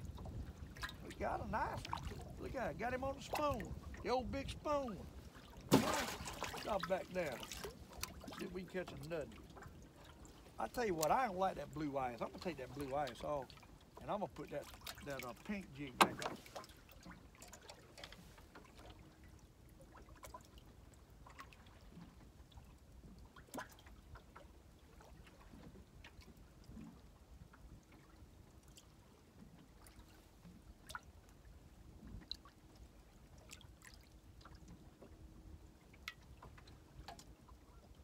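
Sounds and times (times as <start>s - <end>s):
water lapping at boat: 0.0s - 38.0s.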